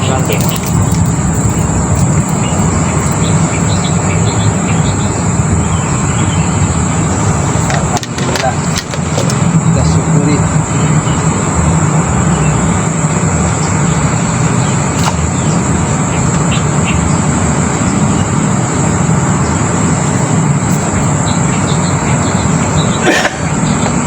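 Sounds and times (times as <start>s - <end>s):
high-pitched insect drone: 0.0s - 24.0s
loud steady rushing noise: 0.0s - 24.0s.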